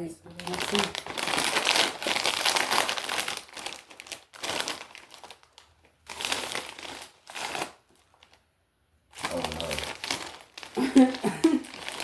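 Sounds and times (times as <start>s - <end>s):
chip bag crinkling: 0.4s - 8.4s, 9.1s - 12.0s.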